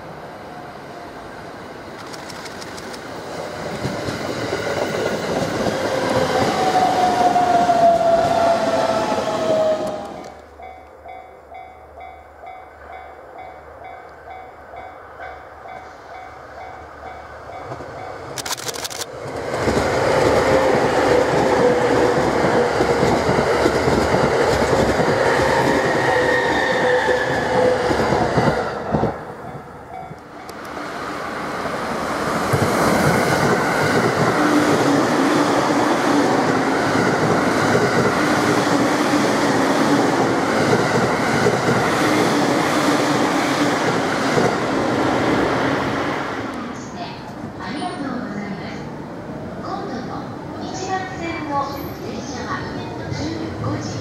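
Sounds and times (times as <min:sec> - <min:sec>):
electric trains passing: 0:00.0 - 0:54.0.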